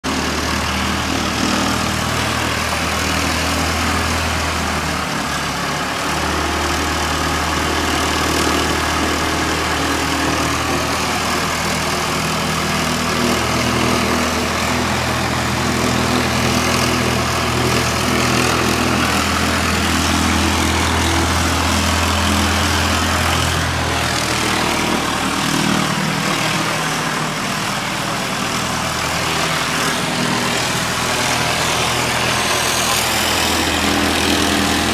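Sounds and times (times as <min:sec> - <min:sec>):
aircraft piston engine drone: 0:00.1 - 0:34.9.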